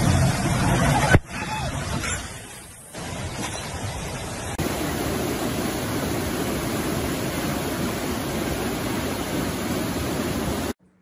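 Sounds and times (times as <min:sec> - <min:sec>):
floodwater rushing: 0:00.0 - 0:10.8.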